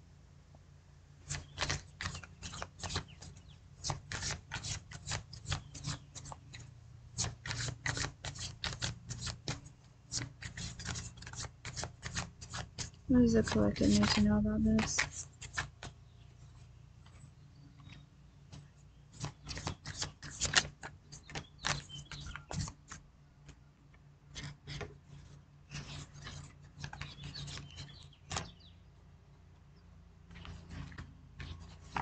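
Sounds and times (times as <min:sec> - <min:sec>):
cards being shuffled: 0:01.2 - 0:16.0, 0:18.5 - 0:23.6, 0:24.3 - 0:28.6, 0:30.3 - 0:32.0.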